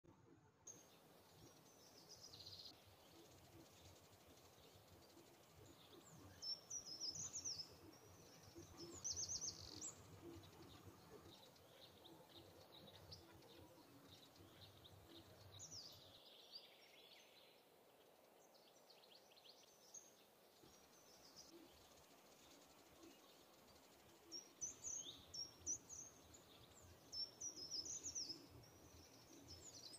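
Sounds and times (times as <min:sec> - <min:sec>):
faint birdsong: 0:00.1 - 0:29.9
low background noise: 0:00.1 - 0:29.9.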